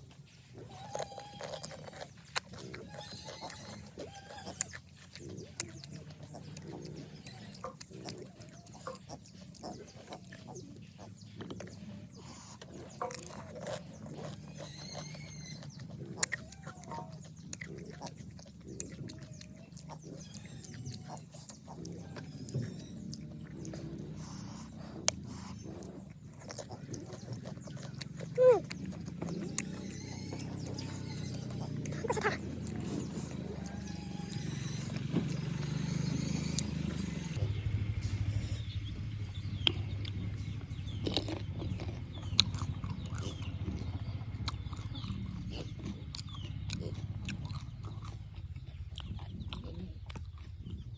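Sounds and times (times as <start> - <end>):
person chewing: 0.0 - 38.8, 39.4 - 50.9
mouth eating crunches and slurping: 0.0 - 50.9
steady low hum: 0.0 - 50.9.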